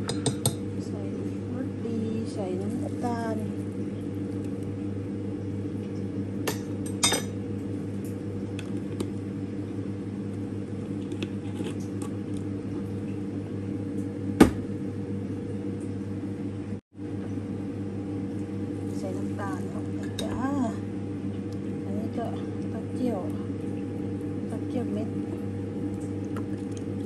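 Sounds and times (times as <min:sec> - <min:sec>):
kitchen appliance humming: 0:00.0 - 0:27.0.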